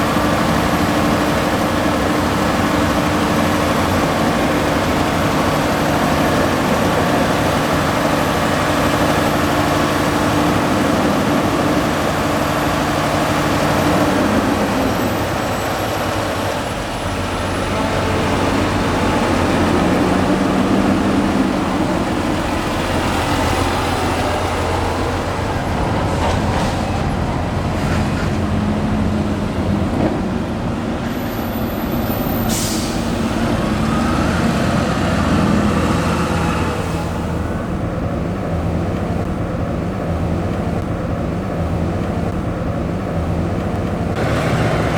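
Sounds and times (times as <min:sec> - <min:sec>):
large diesel engines under load: 0:00.0 - 0:44.9.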